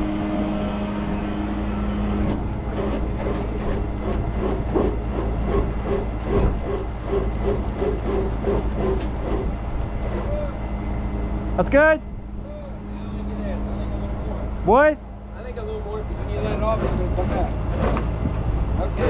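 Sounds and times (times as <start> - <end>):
truck engine rumbling under load: 0.0 - 19.0.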